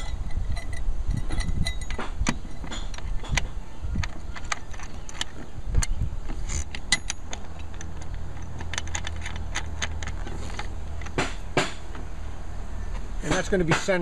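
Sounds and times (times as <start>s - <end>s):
metallic clicks of bolt threading: 0.0s - 11.3s
steady low rumble: 0.0s - 13.3s.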